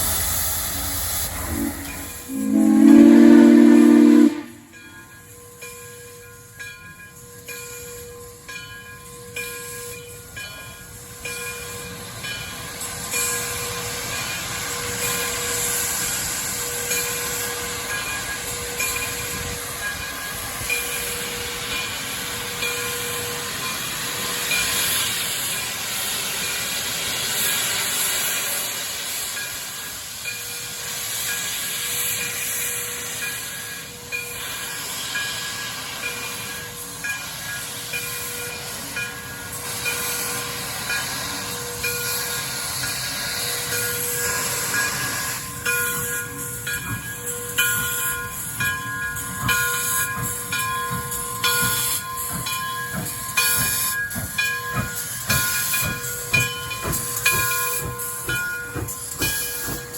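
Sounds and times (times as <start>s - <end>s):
train running past: 0.0s - 59.9s.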